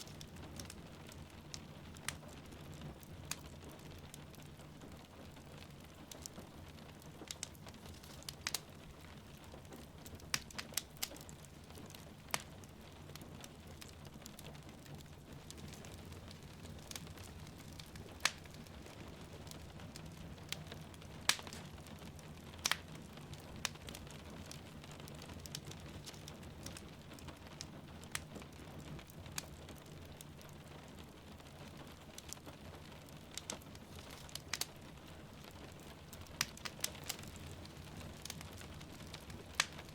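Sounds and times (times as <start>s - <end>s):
soft rain hiss: 0.0s - 39.9s
wood fire crackling and popping: 0.0s - 39.9s.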